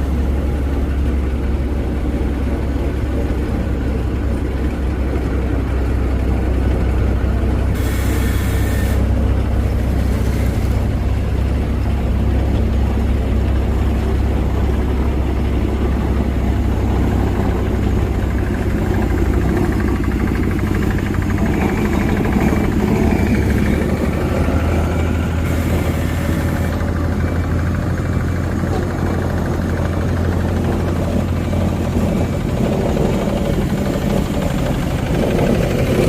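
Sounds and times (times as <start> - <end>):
diesel engine droning: 0.0 - 36.0.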